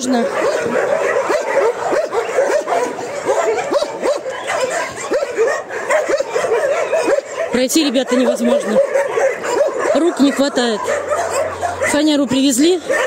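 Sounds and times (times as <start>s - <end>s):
many dogs barking and yelping: 0.0s - 13.0s.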